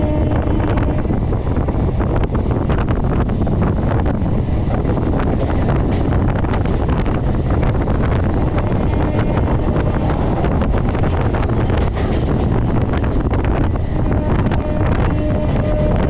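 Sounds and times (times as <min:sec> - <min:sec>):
train rumbling on track: 0:00.0 - 0:16.0
wind buffeting microphone: 0:00.0 - 0:16.0.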